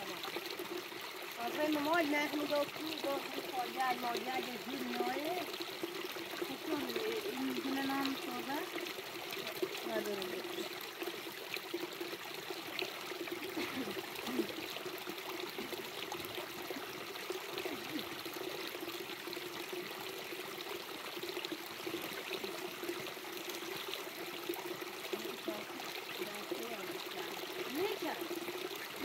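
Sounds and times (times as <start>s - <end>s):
water pouring onto stones: 0.0s - 29.0s.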